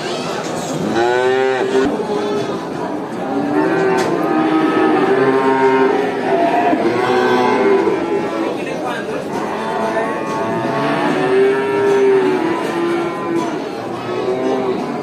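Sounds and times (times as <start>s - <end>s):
cattle mooing: 0.8s - 2.6s, 3.3s - 8.6s, 9.4s - 15.0s.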